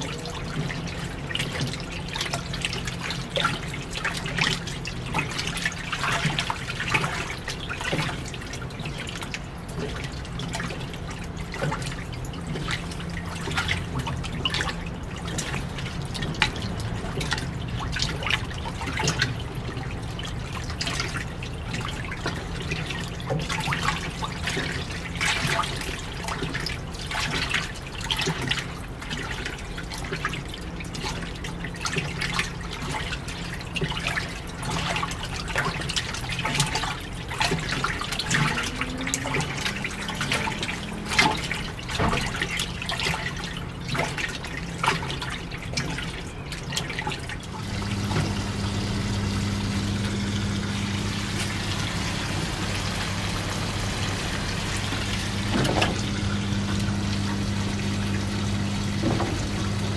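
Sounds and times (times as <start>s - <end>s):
washing machine hum: 0.0s - 59.9s
water sloshing in washing machine: 0.0s - 59.9s.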